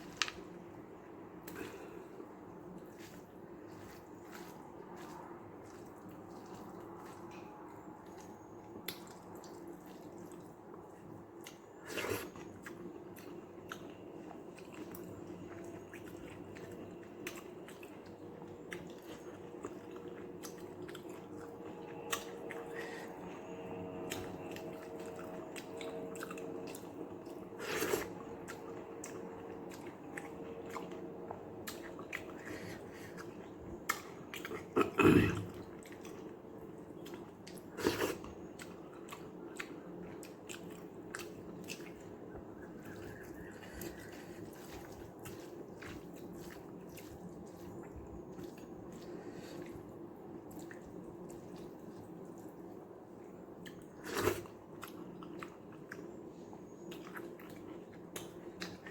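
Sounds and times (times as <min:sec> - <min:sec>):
person chewing wet food: 0:00.0 - 0:58.9.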